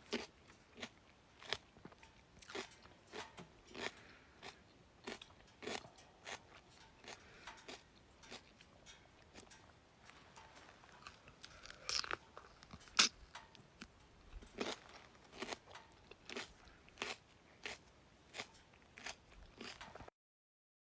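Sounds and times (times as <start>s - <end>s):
person crunching cucumber: 0.0s - 8.6s, 10.7s - 20.1s.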